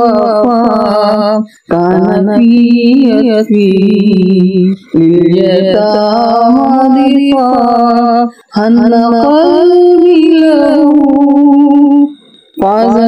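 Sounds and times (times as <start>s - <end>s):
solo voice singing: 0.0s - 13.0s.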